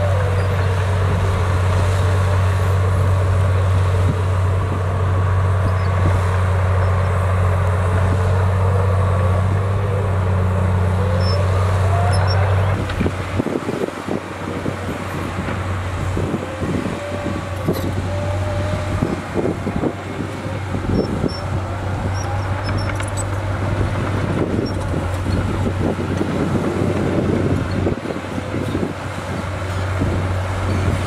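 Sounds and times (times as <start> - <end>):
bulldozer diesel engine drone: 0.0 - 31.0.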